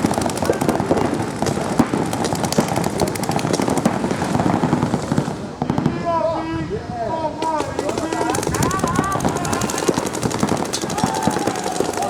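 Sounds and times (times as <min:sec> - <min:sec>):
paintball markers firing: 0:00.0 - 0:05.9, 0:07.4 - 0:12.0.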